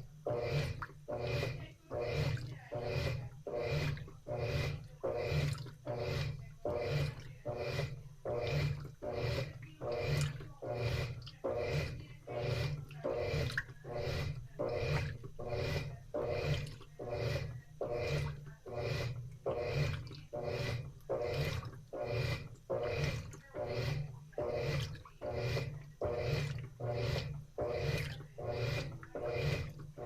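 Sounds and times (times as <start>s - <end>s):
washing machine motor humming: 0.0s - 30.0s
water sloshing: 0.0s - 30.0s.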